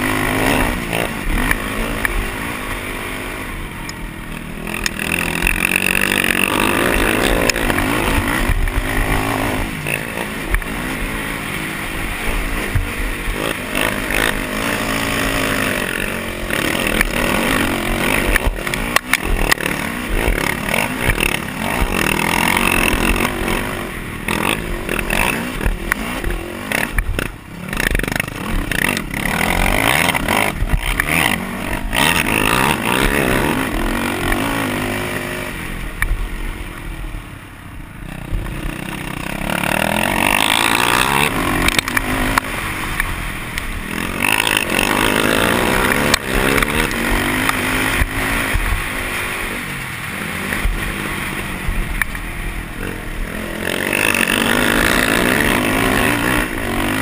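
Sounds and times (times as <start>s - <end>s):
quad engine revving: 0.0s - 36.2s, 38.0s - 57.0s.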